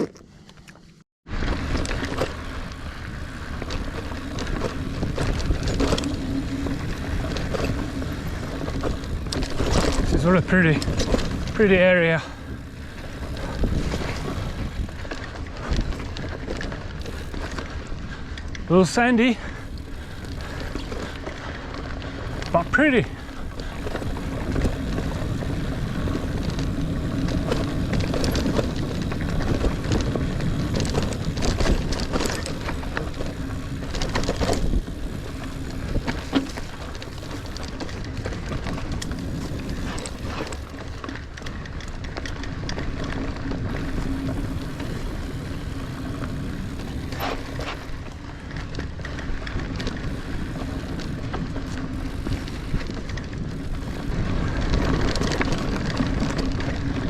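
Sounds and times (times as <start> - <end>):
bike tyres rolling rumble: 0.0 - 57.0
bike knocks and rattles: 1.3 - 57.0.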